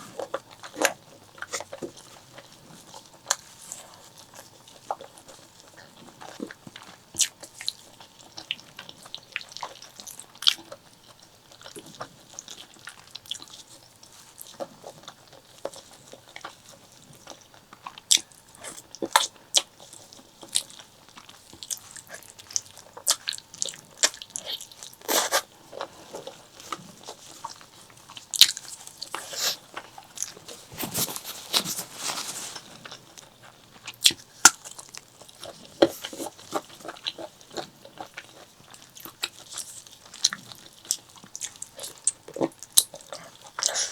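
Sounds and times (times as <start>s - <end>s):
wet chewing and mouth clicks: 0.1s - 43.9s.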